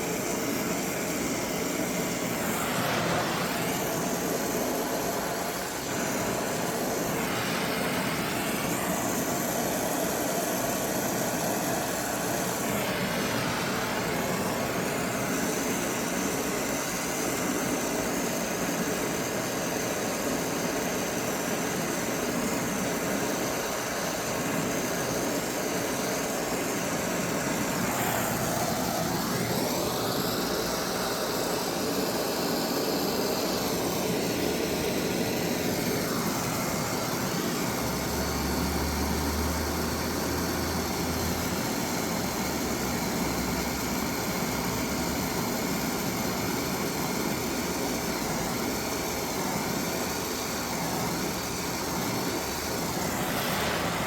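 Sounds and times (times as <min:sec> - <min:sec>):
torch flame running: 0:00.0 - 0:54.0.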